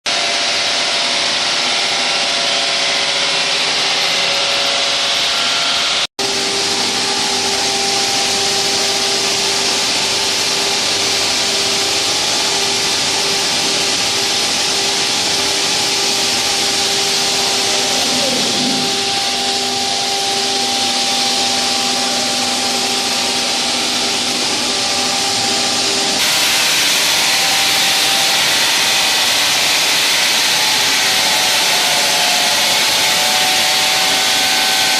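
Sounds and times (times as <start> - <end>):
wall saw cutting concrete: 0.1 - 34.9.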